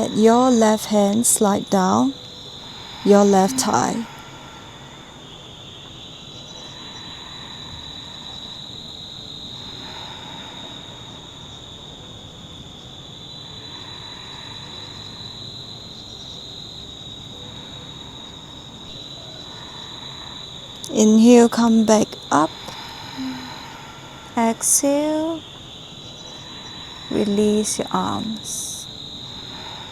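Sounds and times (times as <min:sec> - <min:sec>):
faint outdoor background noise: 0:00.0 - 0:29.9
high-pitched insect chorus: 0:00.0 - 0:29.9.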